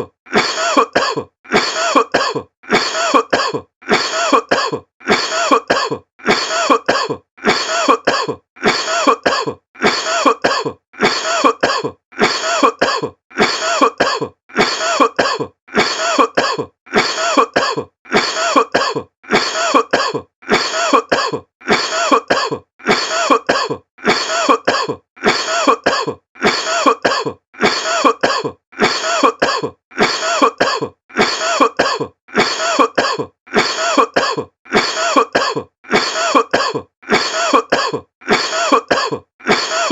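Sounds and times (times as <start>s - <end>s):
person coughing: 0.0s - 39.9s.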